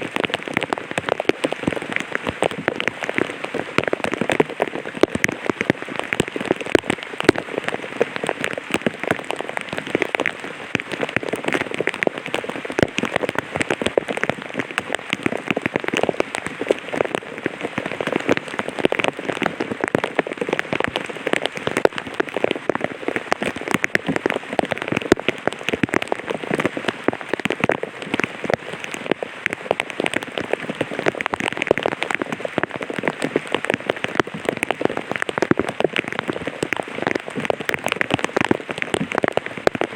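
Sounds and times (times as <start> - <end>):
light rain on an umbrella: 0.0 - 39.9.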